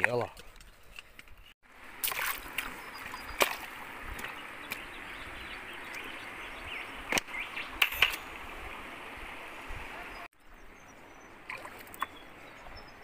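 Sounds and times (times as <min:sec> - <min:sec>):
creek water rushing: 0:01.6 - 0:13.0.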